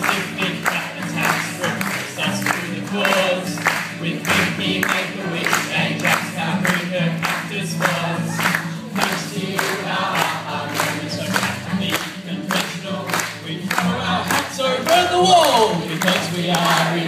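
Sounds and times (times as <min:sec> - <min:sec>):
acoustic guitars strumming: 0:00.0 - 0:17.0
group of voices singing: 0:00.0 - 0:17.0.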